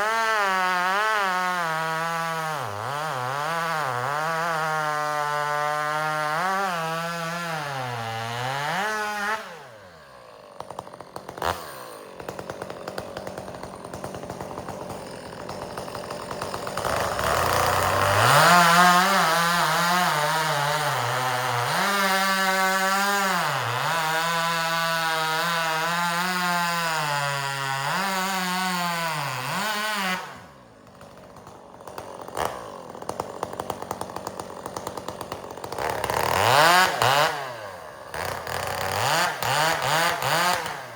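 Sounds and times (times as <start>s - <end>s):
chainsaw cutting firewood: 0.0s - 40.9s.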